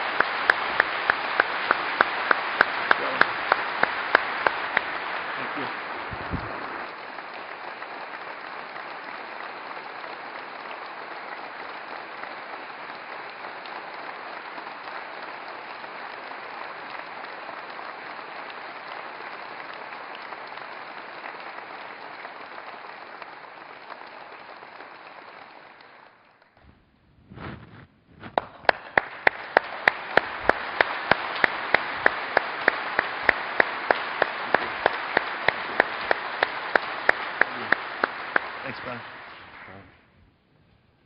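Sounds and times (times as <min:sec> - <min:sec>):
large audience applauding: 0:00.0 - 0:26.6, 0:28.3 - 0:40.1.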